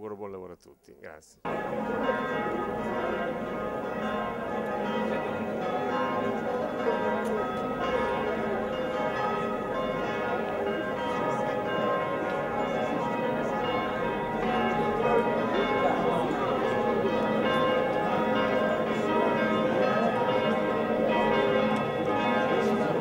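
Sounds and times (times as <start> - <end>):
church bells ringing: 1.4 - 23.0.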